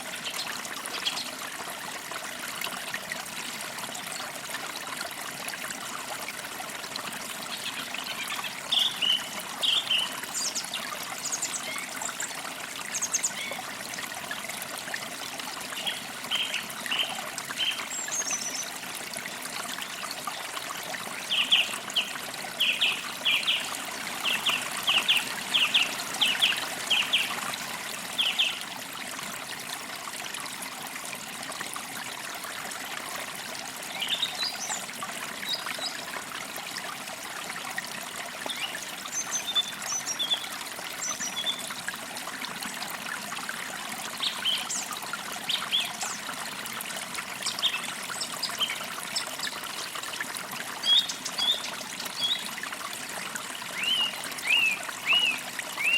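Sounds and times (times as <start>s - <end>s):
creek flowing: 0.0s - 55.9s.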